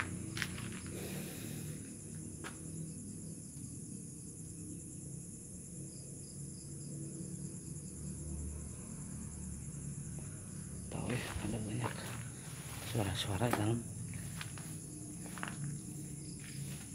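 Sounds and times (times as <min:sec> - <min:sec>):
insects chirping chorus: 0:00.0 - 0:16.9.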